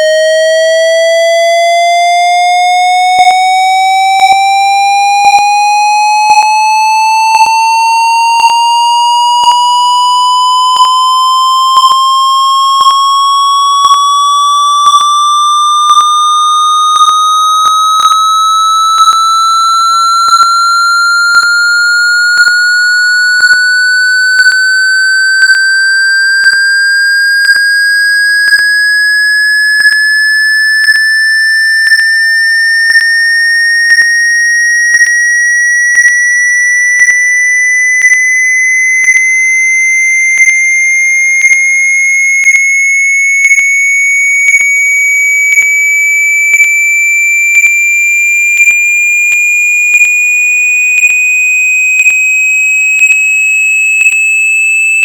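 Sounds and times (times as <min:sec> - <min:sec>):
sine tone sweeping upward: 0:00.0 - 0:50.2.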